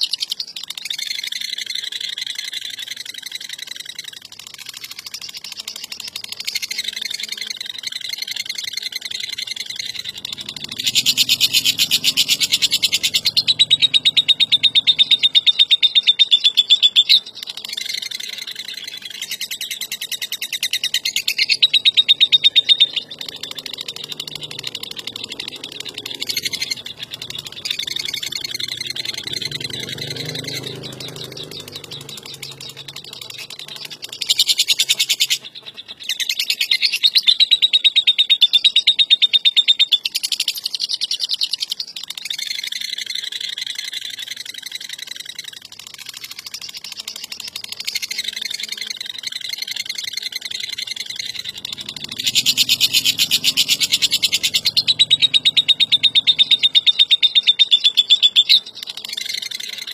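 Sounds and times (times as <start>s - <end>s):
lovebird chattering trill: 0.0s - 59.9s.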